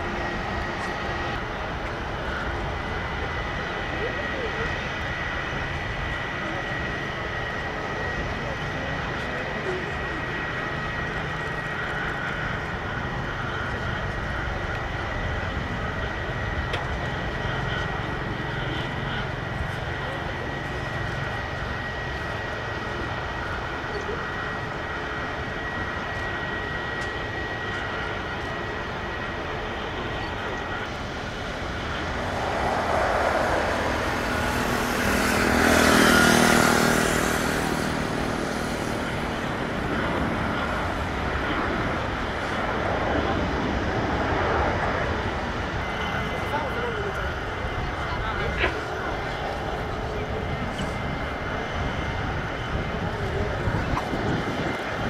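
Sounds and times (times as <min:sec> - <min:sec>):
jet engines whining: 0:00.0 - 0:55.0
jet passing: 0:00.0 - 0:55.0.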